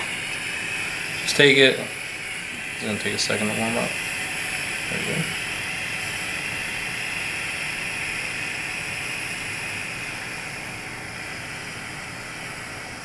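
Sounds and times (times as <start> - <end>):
heat gun hissing: 0.0 - 13.0.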